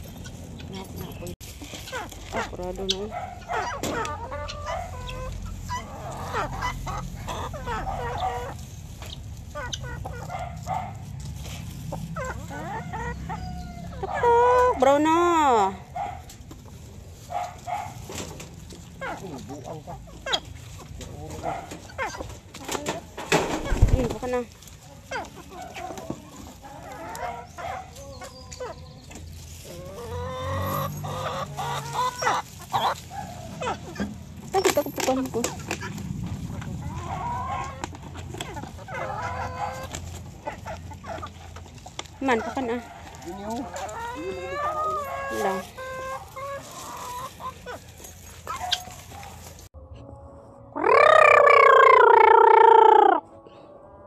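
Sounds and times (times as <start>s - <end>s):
chickens clucking: 0.0s - 49.7s, 50.7s - 54.0s.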